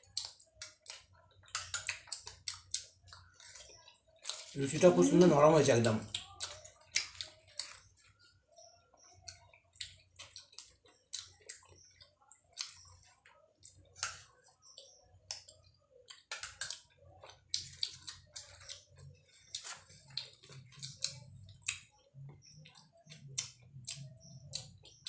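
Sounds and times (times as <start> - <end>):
people chewing with mouth clicks: 0.0 - 25.0.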